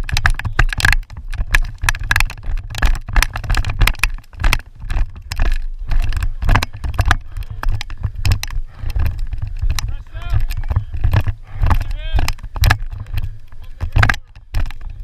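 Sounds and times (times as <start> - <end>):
sharp clicks and knocks: 0.0 - 15.0.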